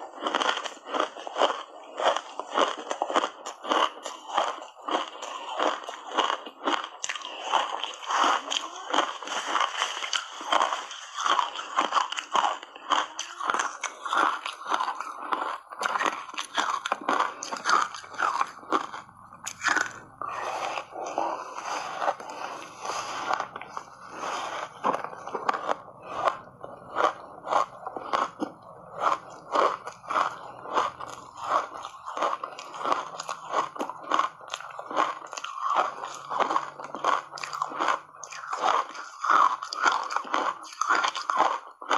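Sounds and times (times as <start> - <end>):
ice crunching being chewed: 0.0 - 41.9.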